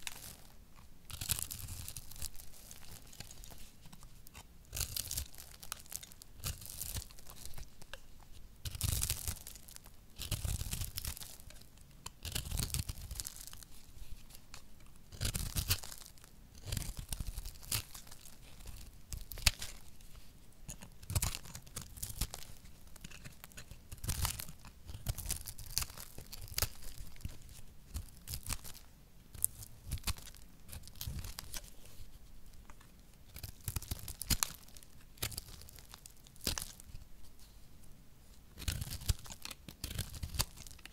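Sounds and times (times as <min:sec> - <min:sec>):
knife scraping soap: 0:00.0 - 0:08.0, 0:08.6 - 0:32.0, 0:38.6 - 0:40.9.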